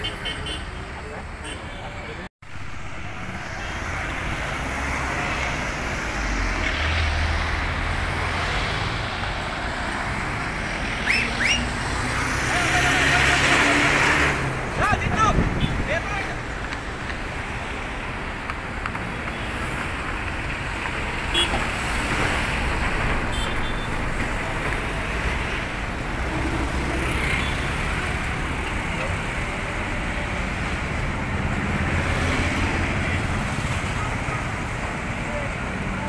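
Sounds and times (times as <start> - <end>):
road traffic noise: 0.0 - 36.0
bus engine rumbling: 2.0 - 36.0.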